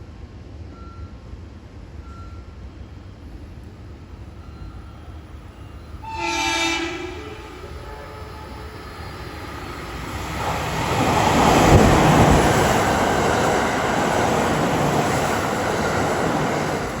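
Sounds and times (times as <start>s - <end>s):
electric train passing on rails: 0.0s - 17.0s.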